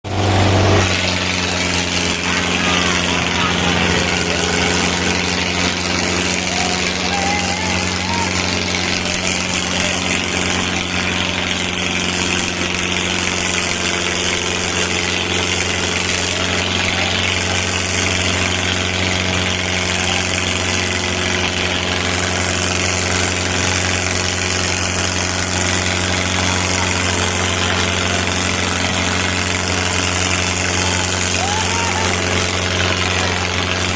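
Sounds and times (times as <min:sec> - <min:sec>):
diesel tractor engines droning: 0:00.0 - 0:33.9.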